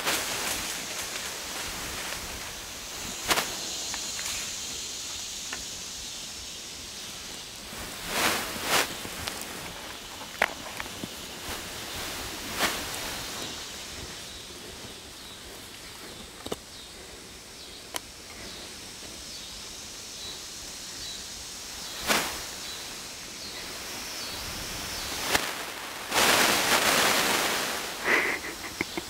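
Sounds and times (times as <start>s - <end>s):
loud rustling: 0.0s - 17.2s, 21.9s - 29.0s.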